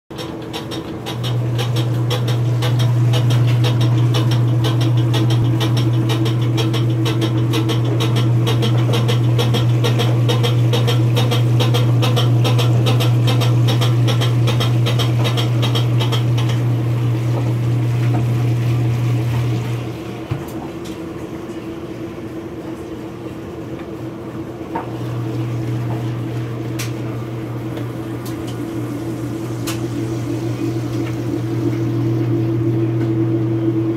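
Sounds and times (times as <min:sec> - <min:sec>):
washing machine clunking: 0:00.1 - 0:22.0, 0:22.6 - 0:33.9
washing machine motor humming: 0:00.1 - 0:33.9.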